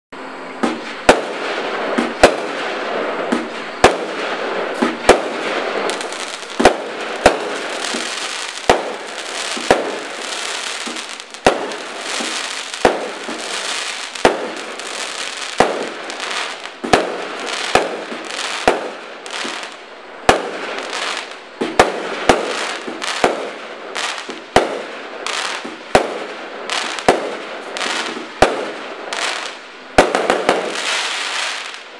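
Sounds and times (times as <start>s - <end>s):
firework bangs: 0.5s - 31.9s
firework crackle: 0.5s - 31.9s.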